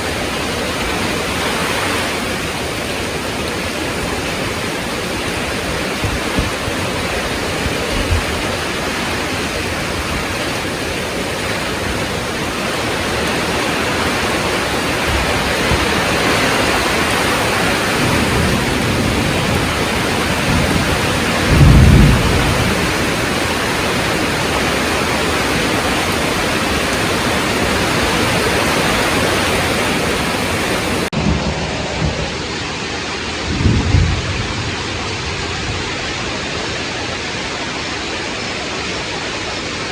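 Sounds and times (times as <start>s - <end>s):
thunder rumbling: 0.0s - 37.4s
heavy rain pouring: 0.0s - 39.9s.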